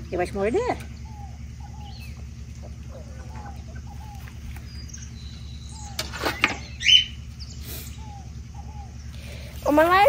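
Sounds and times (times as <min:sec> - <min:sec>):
birds calling in falling notes: 0:00.0 - 0:10.0
steady low hum: 0:00.0 - 0:10.0.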